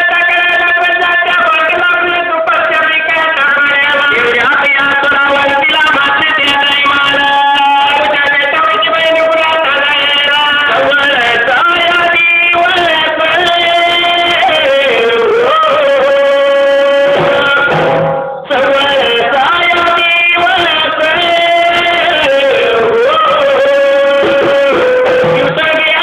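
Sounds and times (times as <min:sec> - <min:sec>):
man singing folk ballad: 0:00.0 - 0:26.0
instrumental accompaniment: 0:03.6 - 0:26.0.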